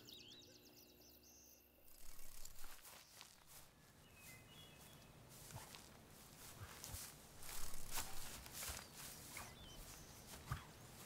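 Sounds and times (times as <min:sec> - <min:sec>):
soft rustling: 0:01.9 - 0:11.0.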